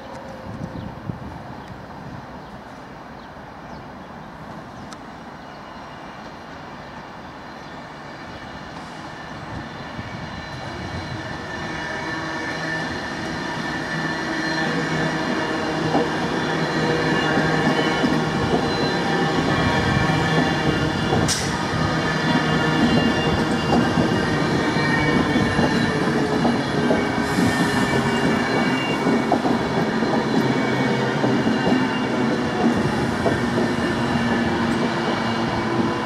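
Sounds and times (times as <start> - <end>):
train rolling on rails: 0.0 - 36.0
train whine: 4.4 - 36.0.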